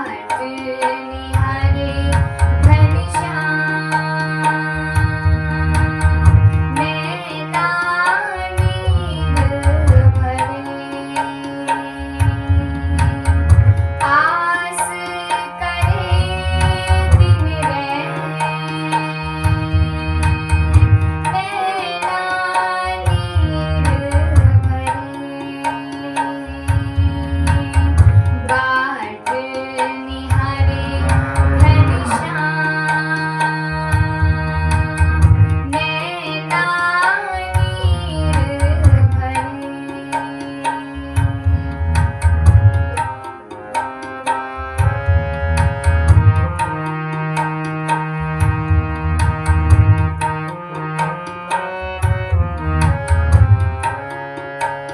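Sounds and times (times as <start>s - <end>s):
sustained instrumental melody: 0.0s - 54.9s
tabla rhythm: 0.0s - 54.9s.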